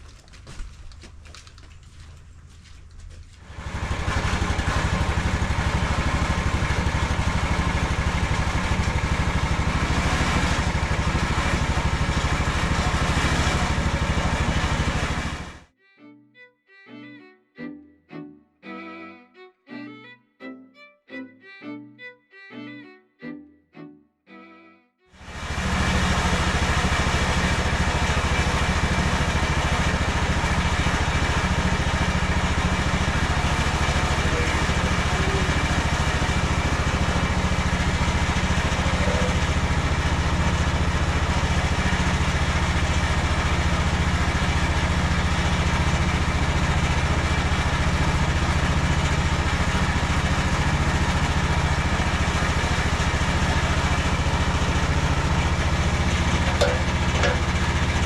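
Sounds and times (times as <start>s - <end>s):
sawmill engine running: 0.0s - 15.7s, 25.2s - 58.0s.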